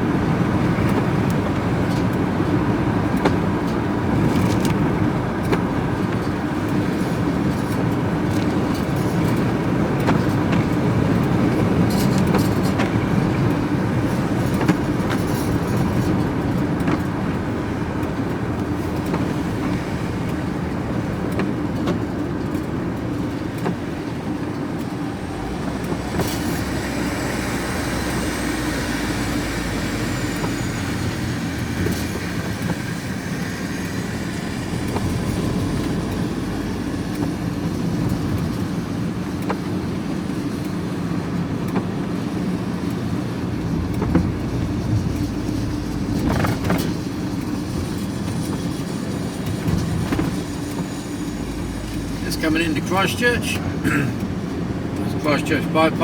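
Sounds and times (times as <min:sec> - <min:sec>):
vehicle engine and tyre noise: 0:00.0 - 0:56.0
light rattles and knocks: 0:00.7 - 0:55.0.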